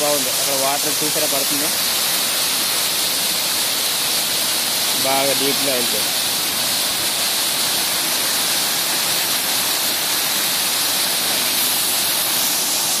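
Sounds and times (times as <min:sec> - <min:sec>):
waterfall cascading over rocks: 0:00.0 - 0:13.0.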